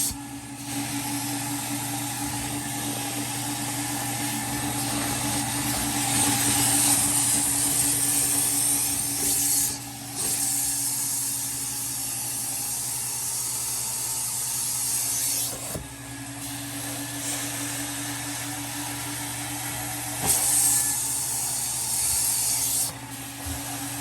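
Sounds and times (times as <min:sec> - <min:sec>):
carpet-cleaning machine running: 0:00.0 - 0:24.0.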